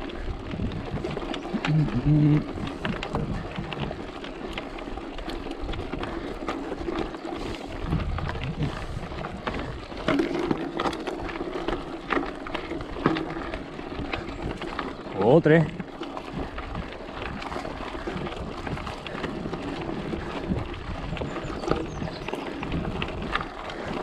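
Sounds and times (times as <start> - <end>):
vehicle rumbling on dirt track: 0.0 - 24.0.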